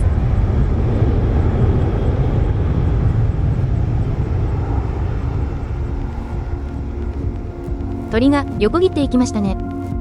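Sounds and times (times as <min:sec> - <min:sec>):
jet engines low rumble: 0:00.0 - 0:10.0.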